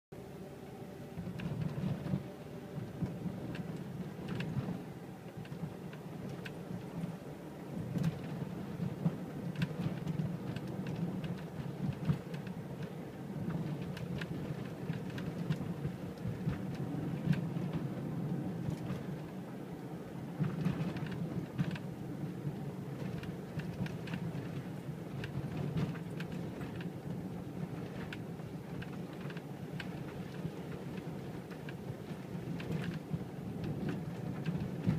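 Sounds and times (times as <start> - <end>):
van rumbling on the road: 0.1 - 34.9.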